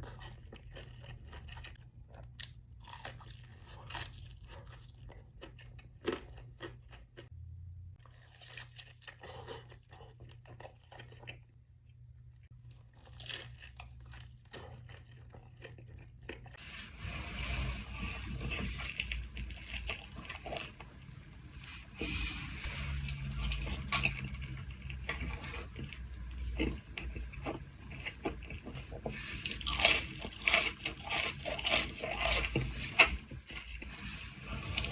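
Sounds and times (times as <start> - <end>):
wet chewing: 0.0 - 7.4, 8.0 - 16.6, 17.9 - 21.8, 23.1 - 34.9.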